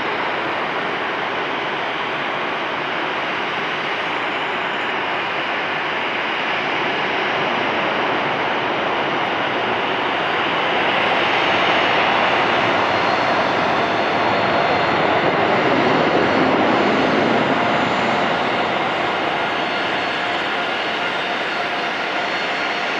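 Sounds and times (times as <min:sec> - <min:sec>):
jet engines landing: 0:00.0 - 0:22.9.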